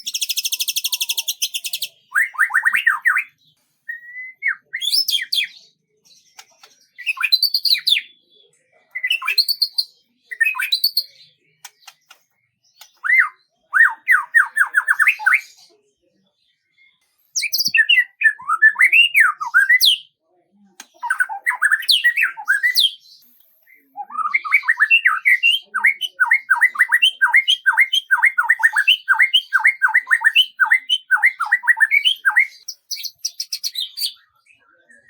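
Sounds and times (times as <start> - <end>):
songbird singing: 0.0 - 15.8, 16.6 - 35.0.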